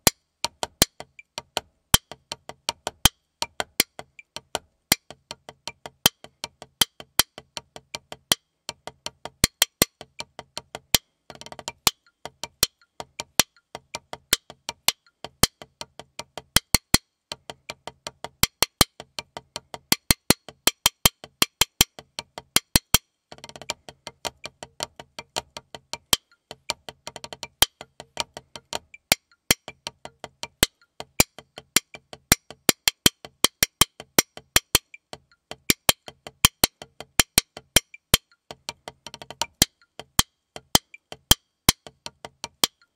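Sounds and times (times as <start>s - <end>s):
drumsticks on practice pad: 0.0s - 42.9s.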